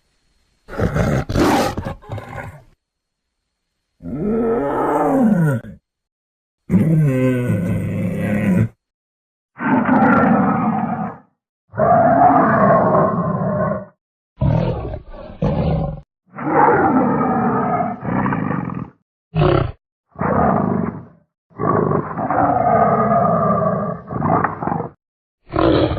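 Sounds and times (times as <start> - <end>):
big cat roars and snarls: 0.7 - 2.8, 4.0 - 5.9, 6.7 - 8.8, 9.6 - 25.9.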